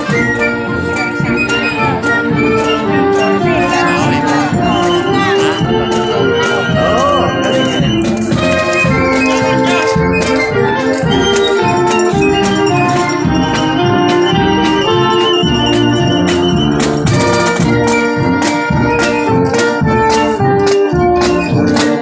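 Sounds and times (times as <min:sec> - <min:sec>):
marching band melody: 0:00.0 - 0:22.0
marching drums beat: 0:00.0 - 0:22.0.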